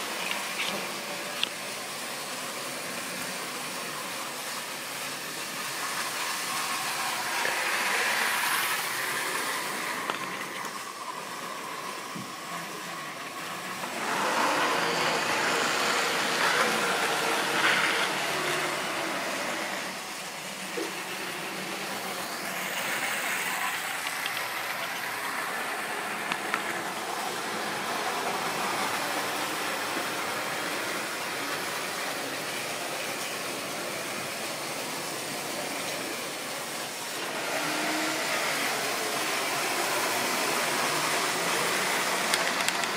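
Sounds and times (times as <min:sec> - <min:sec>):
model train motor rumble and whir: 0:00.0 - 0:42.9.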